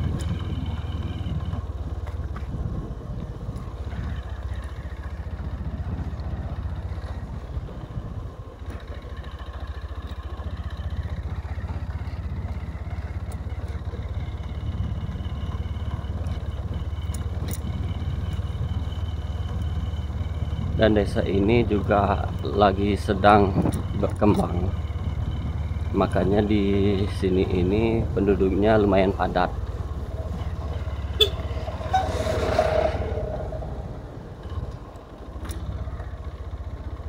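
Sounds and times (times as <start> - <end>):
motorcycle engine rumbling: 0.0 - 37.0.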